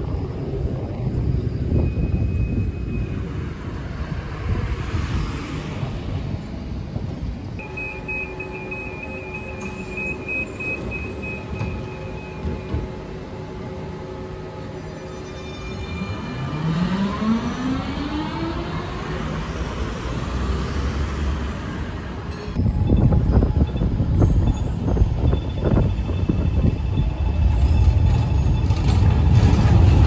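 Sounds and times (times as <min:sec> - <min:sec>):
tram rolling past: 0:00.0 - 0:30.0.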